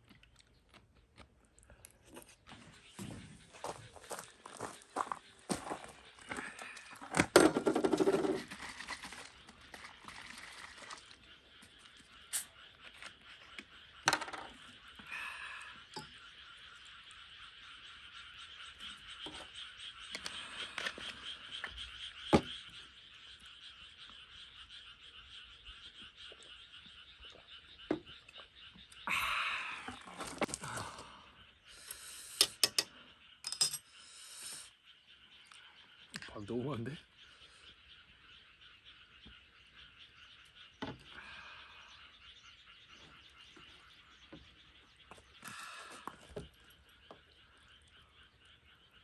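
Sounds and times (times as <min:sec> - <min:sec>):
frogs calling: 0:01.7 - 0:49.0.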